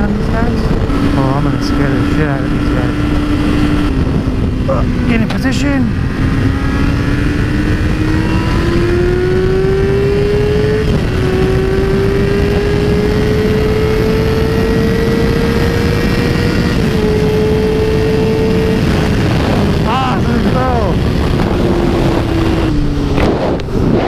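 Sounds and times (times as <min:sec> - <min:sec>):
motorcycle accelerating hard: 0:00.0 - 0:24.0
wind rush: 0:00.0 - 0:24.0.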